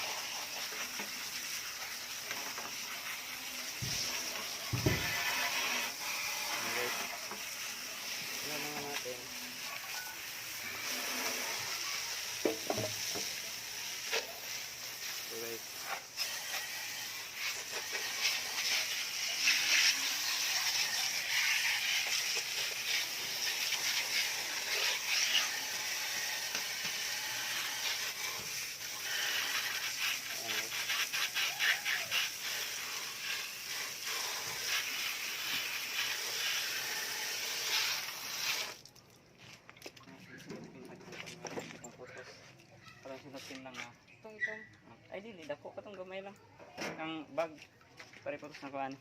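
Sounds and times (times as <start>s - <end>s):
soapy scrubbing: 0.0s - 44.0s.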